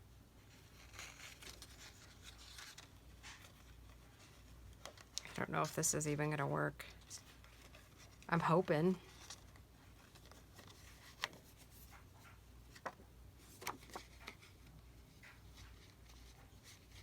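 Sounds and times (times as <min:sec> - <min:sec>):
faint paper taps and rustles: 0:00.8 - 0:05.6, 0:06.9 - 0:17.0.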